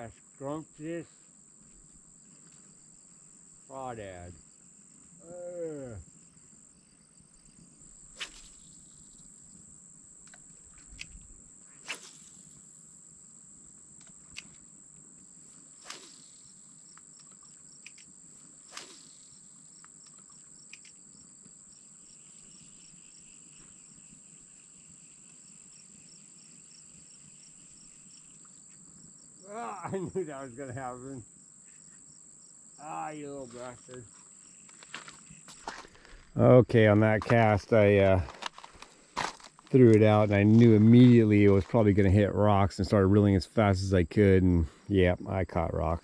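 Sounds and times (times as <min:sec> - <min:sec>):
pulsed insect chirping: 0:00.0 - 0:37.9
crickets trilling: 0:00.0 - 0:46.0.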